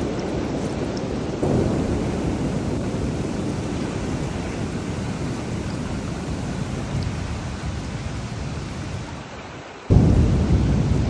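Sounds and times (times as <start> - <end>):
thunder rumbling: 0.0 - 9.2, 9.9 - 11.0
heavy rain hissing: 0.0 - 11.0.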